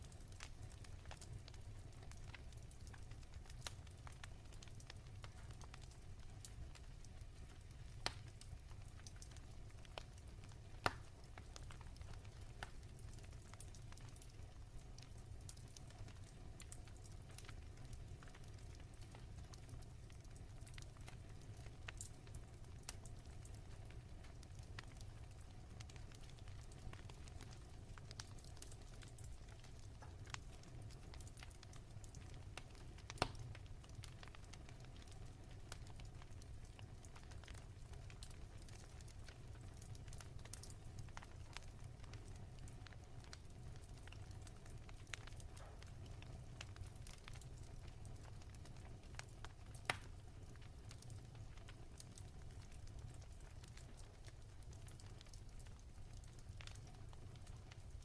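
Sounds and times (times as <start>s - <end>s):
wood fire crackling: 0.0s - 58.0s
fire popping: 0.2s - 58.0s.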